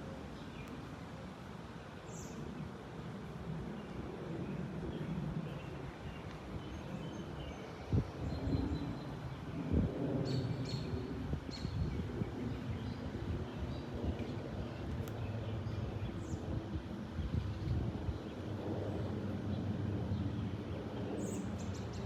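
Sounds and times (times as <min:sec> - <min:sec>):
jet airliner rumble overhead: 0:00.0 - 0:22.0.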